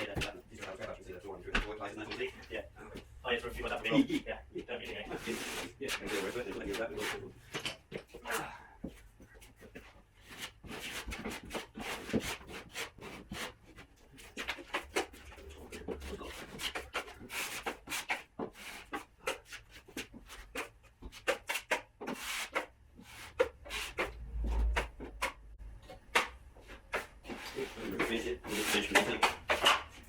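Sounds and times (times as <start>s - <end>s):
taping knife scraping joint compound: 4.8s - 30.0s.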